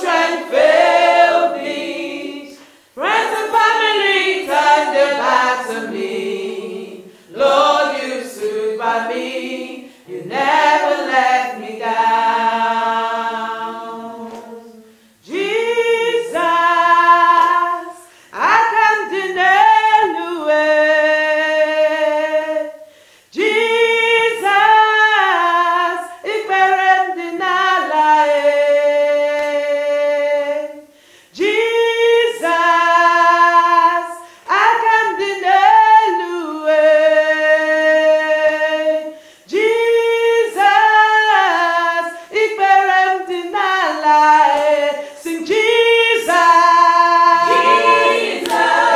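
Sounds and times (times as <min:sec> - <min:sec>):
women singing a cappella: 0:00.0 - 0:48.9.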